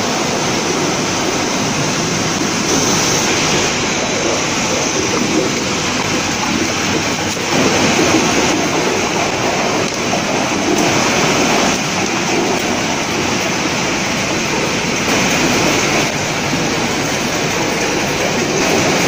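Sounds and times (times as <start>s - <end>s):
processing line conveyors and motors: 0.0s - 19.0s.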